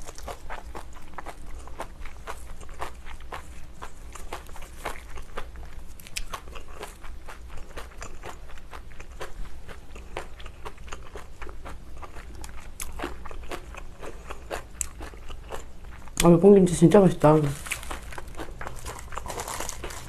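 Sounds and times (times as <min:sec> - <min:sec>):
crisp crunching and chewing: 0:00.0 - 0:16.3, 0:17.4 - 0:20.0.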